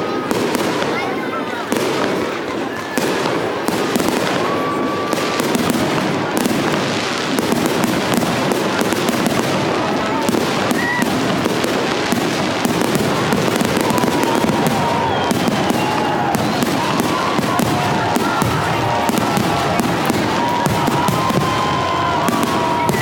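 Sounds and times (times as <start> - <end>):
fireworks crackling: 0.0 - 23.0
fireworks whistling: 0.0 - 23.0.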